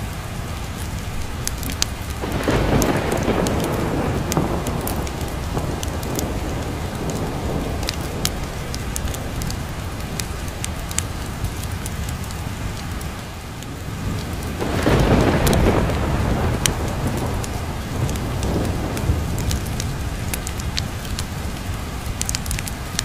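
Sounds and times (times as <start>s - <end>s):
rain falling: 0.0s - 23.0s
wood fire crackling: 0.0s - 23.0s
low thunder rumble: 1.3s - 23.0s.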